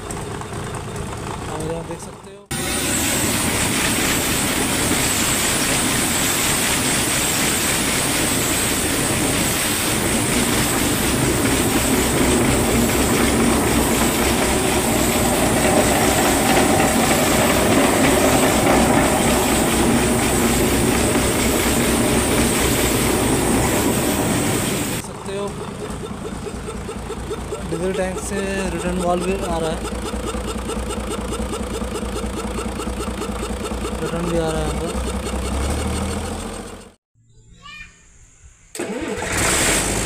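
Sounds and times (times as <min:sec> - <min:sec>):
diesel engine clattering: 0:00.0 - 0:37.0.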